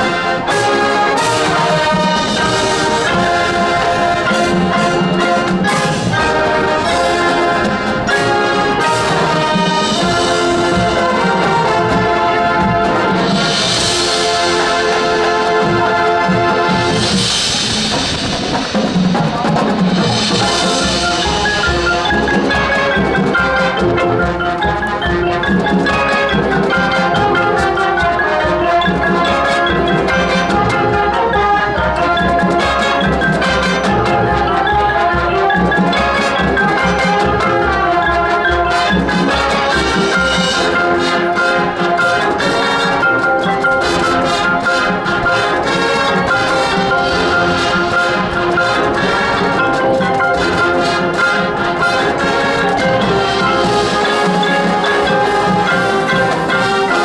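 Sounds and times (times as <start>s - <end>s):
marching band playing: 0.0s - 57.0s.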